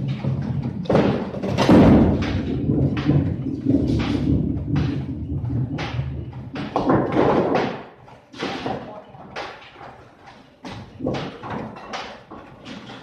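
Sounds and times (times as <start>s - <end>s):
bowling balls and pins clattering: 0.0s - 13.0s.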